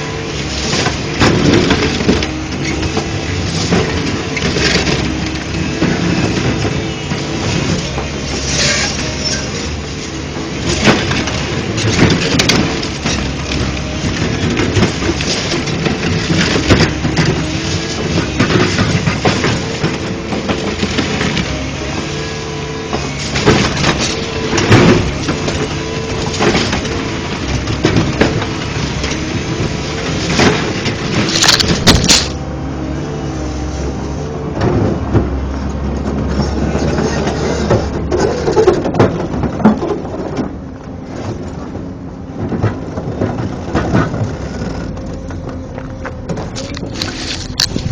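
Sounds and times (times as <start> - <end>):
excavator diesel engine running: 0.0 - 47.9
demolition debris crashing: 0.1 - 22.2, 22.9 - 32.4, 34.6 - 47.9.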